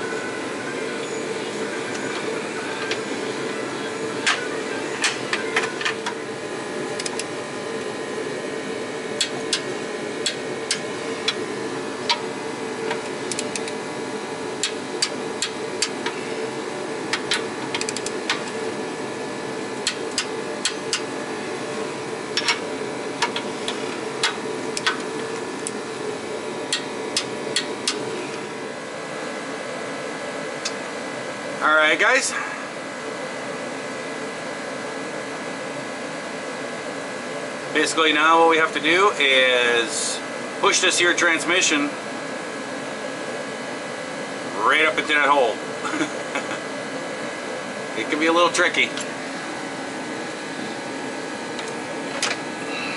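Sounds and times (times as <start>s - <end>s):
space heater drone: 0.0s - 52.9s.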